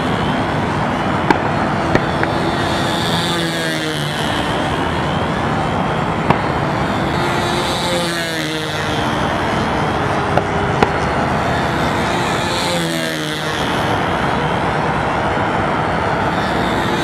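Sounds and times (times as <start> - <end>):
model airplane engine running: 0.0 - 17.0.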